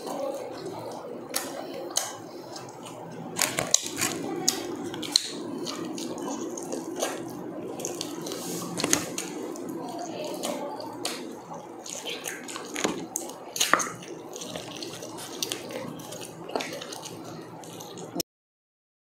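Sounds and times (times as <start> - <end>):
wet chewing and lip smacking: 0.0 - 18.2.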